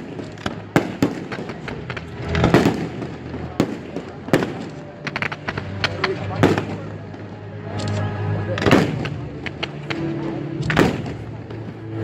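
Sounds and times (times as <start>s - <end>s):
fireworks bangs: 0.0s - 7.3s, 8.6s - 12.0s.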